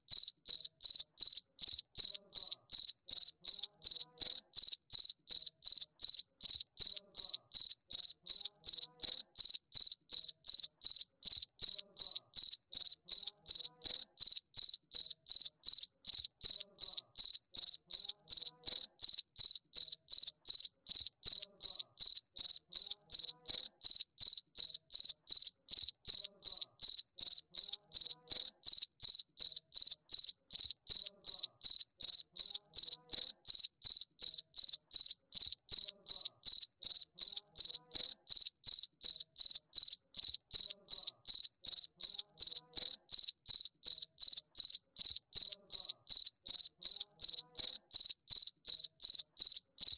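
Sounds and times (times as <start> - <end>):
insect chirping: 0.1 - 47.4, 48.0 - 49.9.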